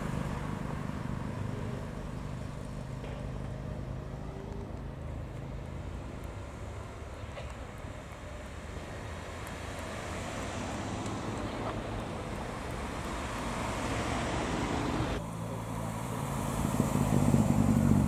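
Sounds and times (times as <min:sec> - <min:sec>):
cars driving slowly past: 0:00.0 - 0:18.0.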